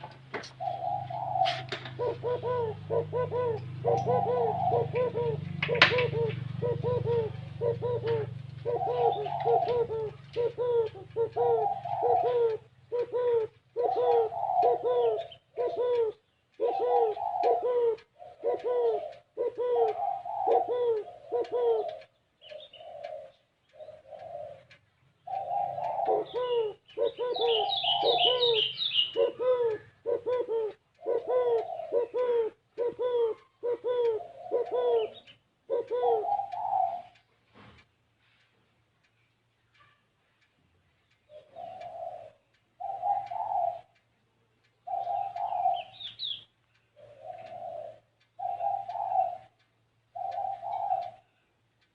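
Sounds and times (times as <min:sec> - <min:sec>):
small bird chirping: 0:00.0 - 0:37.3, 0:39.0 - 0:51.7
dove cooing: 0:00.0 - 0:37.6, 0:41.3 - 0:51.6.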